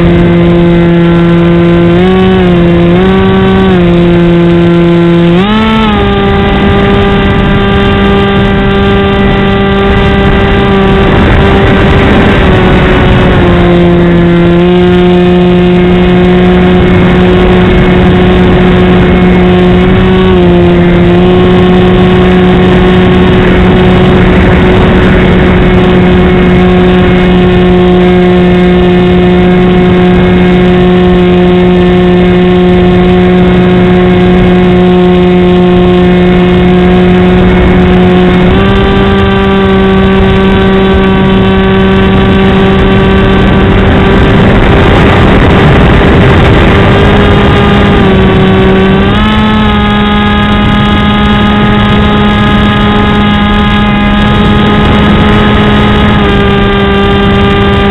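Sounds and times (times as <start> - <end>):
electric motor propeller drone: 0.0 - 57.9
rushing air noise: 0.0 - 57.9.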